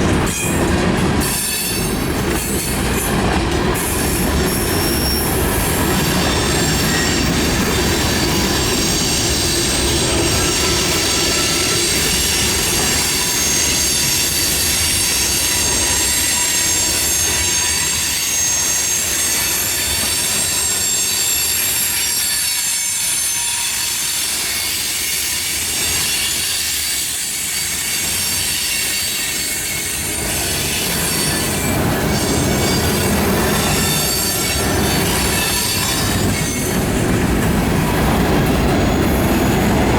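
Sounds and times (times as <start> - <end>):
wheels rumbling on rail: 0.0 - 22.0, 27.6 - 39.9
train wheels squealing: 0.0 - 39.9.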